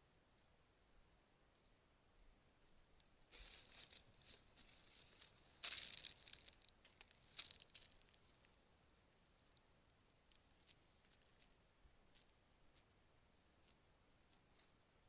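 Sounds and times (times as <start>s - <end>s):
faint rustling and crackling: 1.5s - 15.0s.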